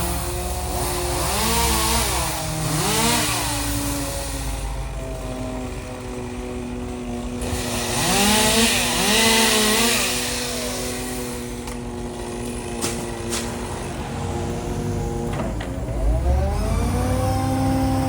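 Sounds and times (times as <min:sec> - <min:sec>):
chainsaw revving: 0:00.0 - 0:15.2, 0:15.9 - 0:18.0
engine hum: 0:00.0 - 0:18.0.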